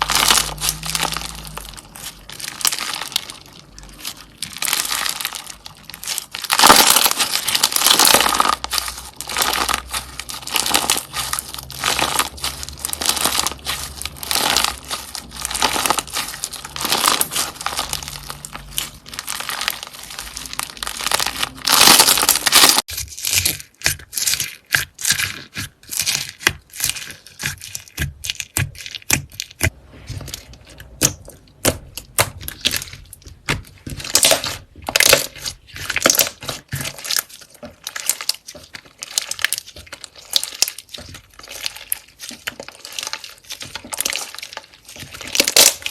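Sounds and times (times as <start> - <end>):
hands crinkling material: 0.0 - 45.9.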